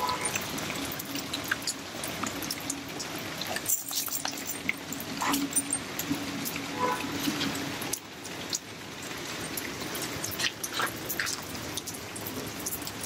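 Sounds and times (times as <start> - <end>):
rainwater dripping and trickling: 0.0 - 13.0.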